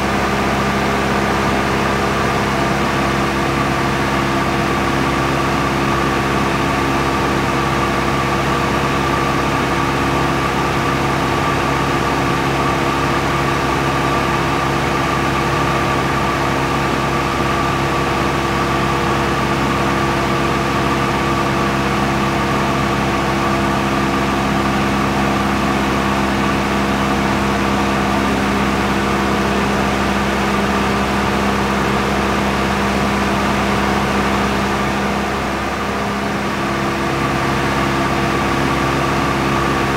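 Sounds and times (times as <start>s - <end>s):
aircraft propeller drone: 0.0s - 39.9s.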